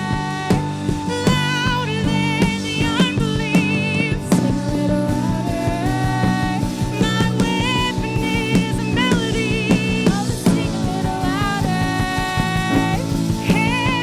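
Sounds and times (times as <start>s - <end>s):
drum beat: 0.0s - 14.0s
worship band music: 0.0s - 14.0s.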